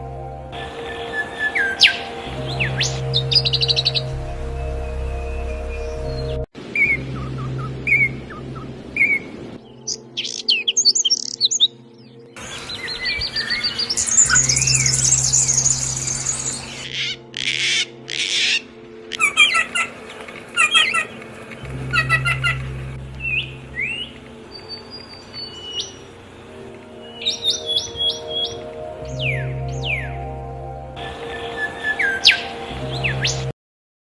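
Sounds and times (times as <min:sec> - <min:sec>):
background music with low drone: 0:00.0 - 0:33.6
songbirds singing and calling: 0:00.6 - 0:33.5.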